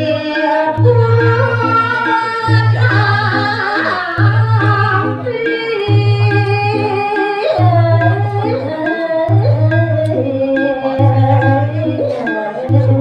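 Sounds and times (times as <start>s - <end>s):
instrumental accompaniment with low pulse: 0.0s - 13.0s
woman singing: 0.0s - 13.0s.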